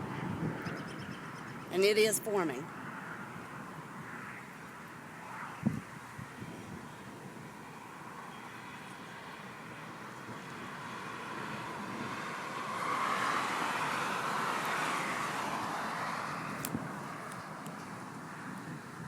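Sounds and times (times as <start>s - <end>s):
vehicle passing on road: 0.0s - 19.0s.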